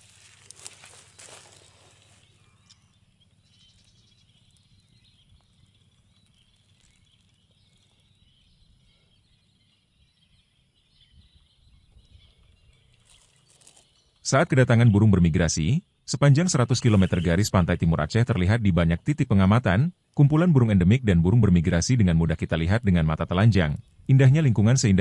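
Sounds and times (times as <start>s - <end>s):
distant bird calls: 0.0s - 25.0s.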